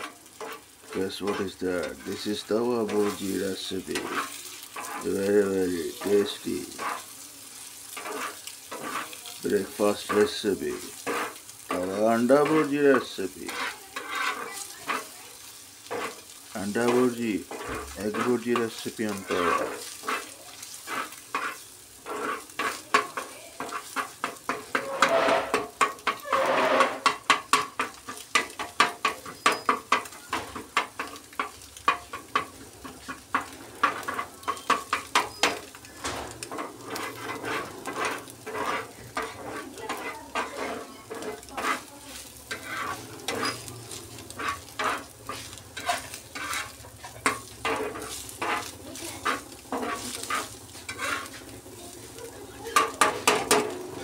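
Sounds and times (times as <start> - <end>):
eggs sizzling: 0.0 - 54.0
metal spatula scraping on griddle: 0.0 - 54.0.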